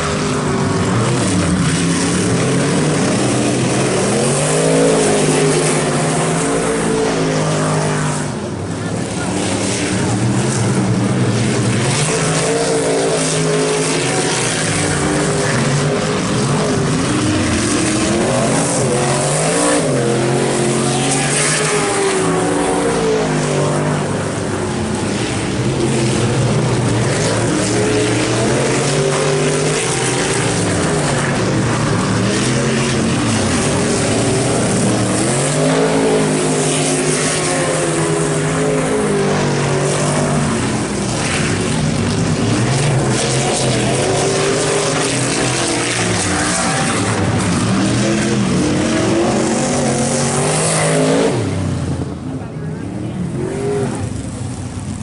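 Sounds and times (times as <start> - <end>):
racing truck engines: 0.0 - 55.0.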